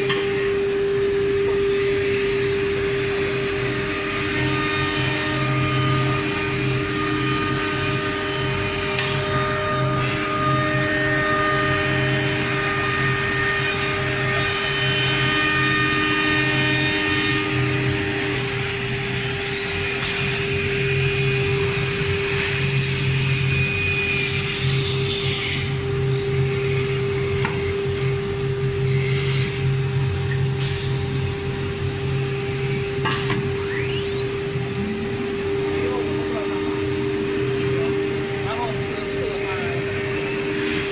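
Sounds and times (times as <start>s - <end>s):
cutter milling wood: 0.0s - 25.6s, 32.4s - 40.9s
low machine hum: 0.0s - 40.9s
router spindle whining: 0.0s - 40.9s.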